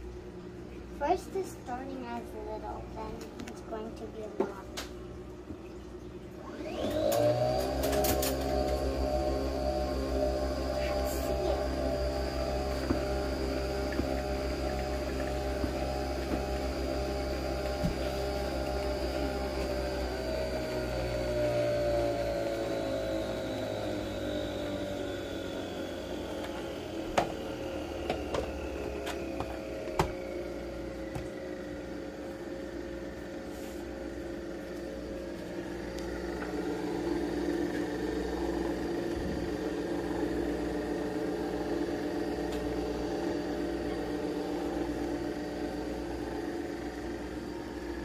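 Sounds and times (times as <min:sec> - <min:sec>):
coffee machine motor hum: 0:00.0 - 0:48.0.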